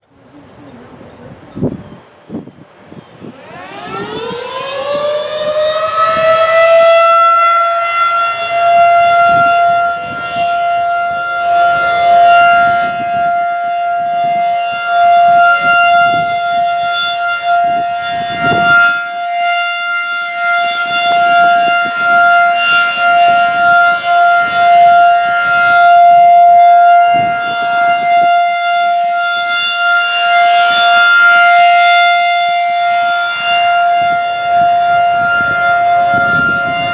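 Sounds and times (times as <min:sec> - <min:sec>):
warning siren winding up: 0:03.2 - 0:36.9.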